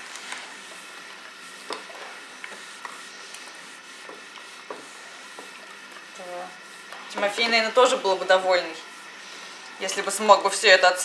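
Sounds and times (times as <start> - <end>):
iron gliding over fabric: 0.0 - 11.0.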